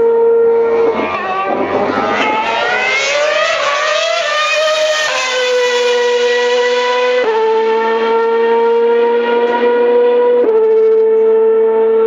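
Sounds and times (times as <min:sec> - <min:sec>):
racing car passing: 0:00.0 - 0:10.4
racing car engines at high revs: 0:00.0 - 0:12.0.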